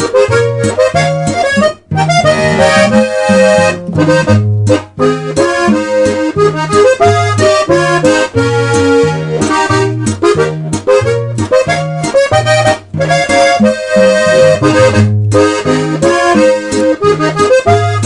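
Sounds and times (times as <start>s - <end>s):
accordion music: 0.0s - 18.0s.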